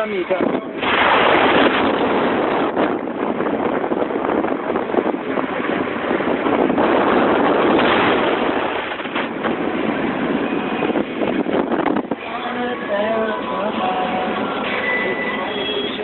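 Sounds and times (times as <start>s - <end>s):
rain and tyres on wet road: 2.4s - 16.0s.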